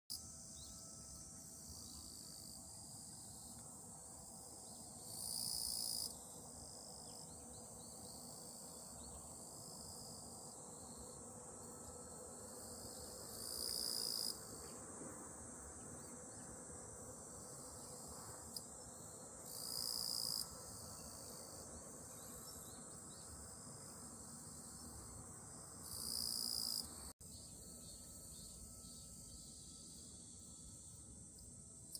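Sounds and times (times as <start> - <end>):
cicada buzz: 0.1 - 31.9
crickets chirring: 0.1 - 31.9.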